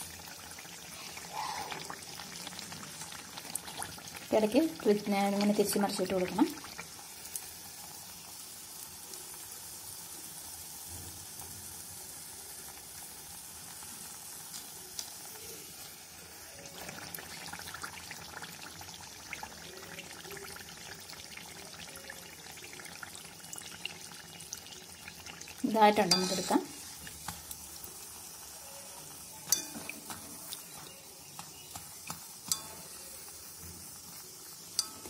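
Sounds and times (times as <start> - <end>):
batter sizzling in oil: 0.0 - 35.0.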